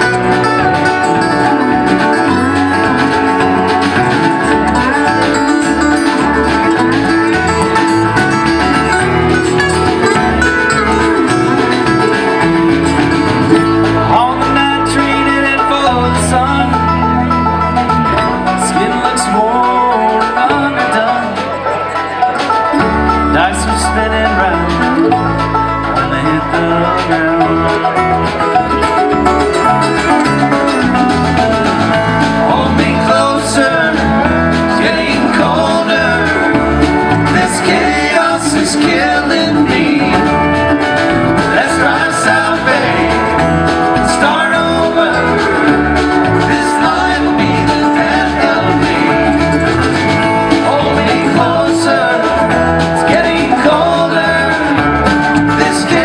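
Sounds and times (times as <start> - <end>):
acoustic guitar: 0.0 - 56.0
banjo: 0.0 - 56.0
bass line: 0.0 - 56.0.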